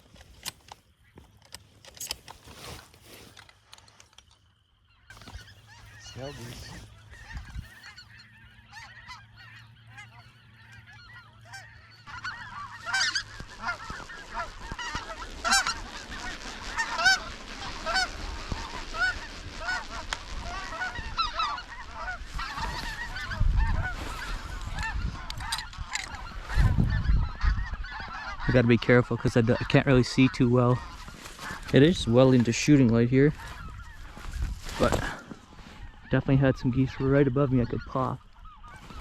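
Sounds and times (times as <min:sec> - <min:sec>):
geese yelping calls: 0:04.7 - 0:39.0.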